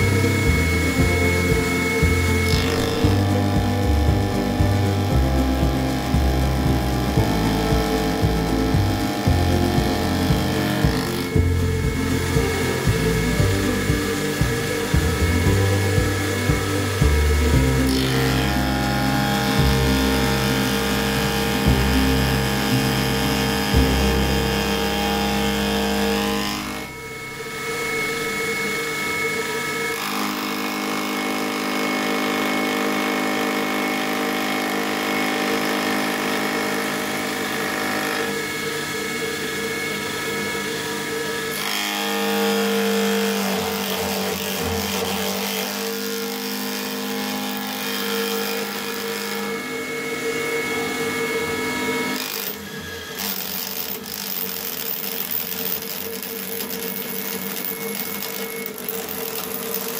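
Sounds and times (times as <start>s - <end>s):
milling machine whine: 0.0s - 59.9s.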